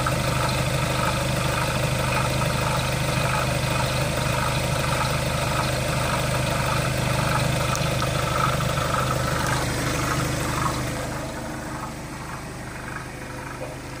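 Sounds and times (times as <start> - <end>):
diesel engine idling: 0.0 - 14.0
odd engine noise: 0.0 - 14.0.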